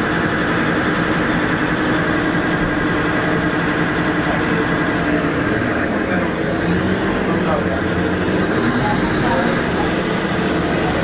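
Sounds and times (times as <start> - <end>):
railcar running hum: 0.0 - 11.0.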